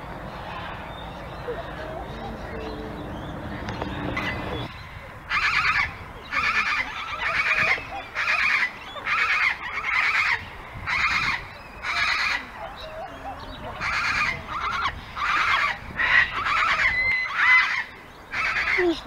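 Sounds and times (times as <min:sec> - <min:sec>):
bird calling: 0:00.0 - 0:19.0.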